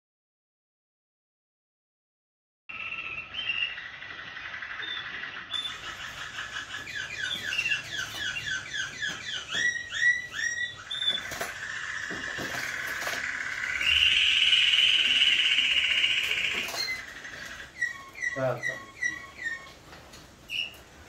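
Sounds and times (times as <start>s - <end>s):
canaries singing: 2.7s - 21.0s.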